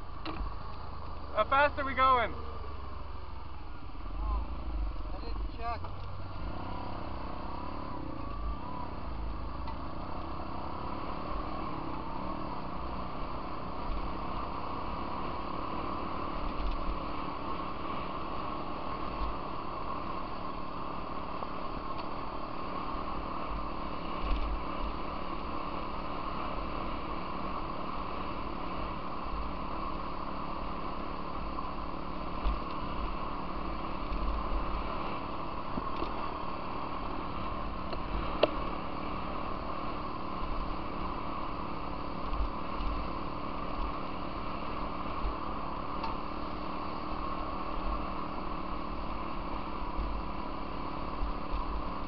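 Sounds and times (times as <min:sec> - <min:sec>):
off-road vehicle engine running: 0:00.0 - 0:52.0.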